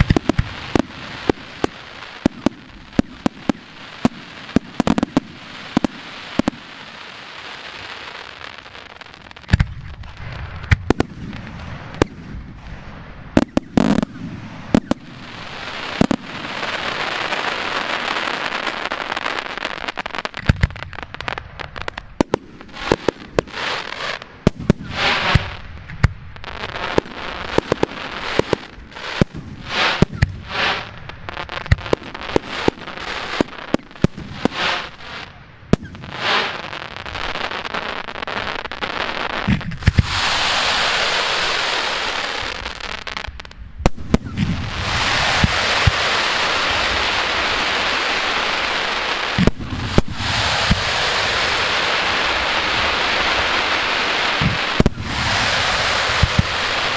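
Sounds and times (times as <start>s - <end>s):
firework shells bursting with bangs: 0.0s - 6.9s, 9.4s - 17.3s, 20.0s - 56.9s
fireworks crackling: 0.0s - 56.9s.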